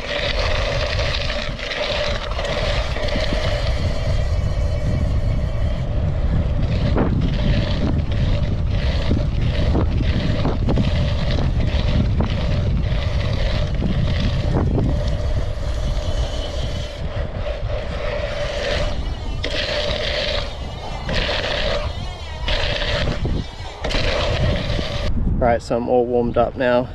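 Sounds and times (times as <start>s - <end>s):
tyres rumbling over dirt: 0.0s - 25.1s
wind buffeting microphone: 0.0s - 26.9s.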